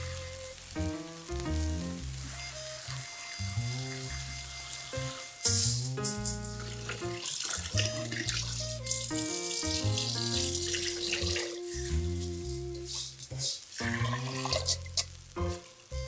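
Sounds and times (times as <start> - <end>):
background music: 0.0 - 16.0
grain being rinsed in colander: 0.0 - 16.0
tap water running: 0.0 - 16.0.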